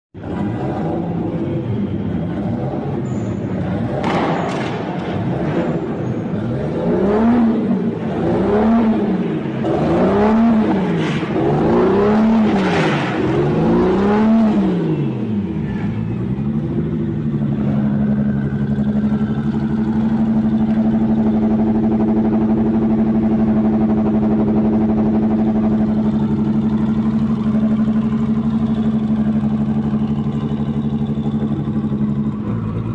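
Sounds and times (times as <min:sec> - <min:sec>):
car engine revving: 0:00.2 - 0:32.9.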